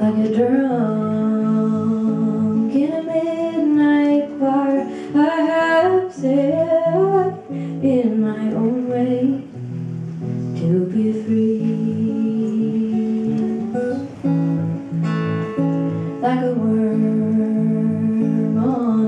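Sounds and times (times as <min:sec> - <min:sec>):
acoustic guitar playing: 0:00.0 - 0:19.0
woman singing folk song: 0:00.0 - 0:19.0.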